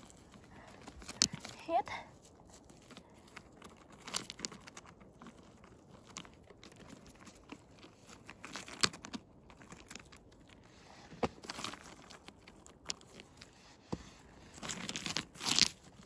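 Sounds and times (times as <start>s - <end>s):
rustling of dry grass and twigs: 0.0s - 16.0s.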